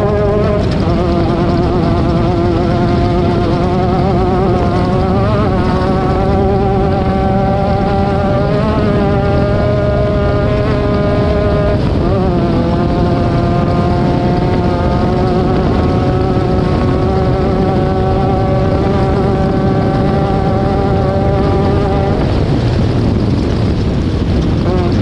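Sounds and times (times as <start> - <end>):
race vehicle engine at high revs: 0.0 - 25.0.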